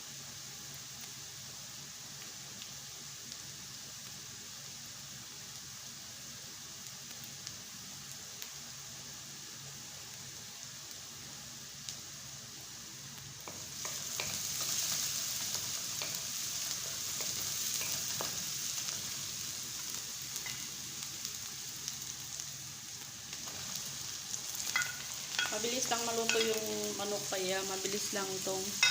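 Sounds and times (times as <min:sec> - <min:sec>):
food sizzling in a frying pan: 0:00.0 - 0:28.9.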